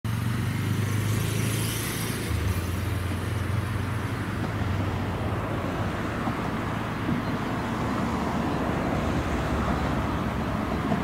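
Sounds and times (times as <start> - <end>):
diesel railcar engine drone: 0.1 - 11.0.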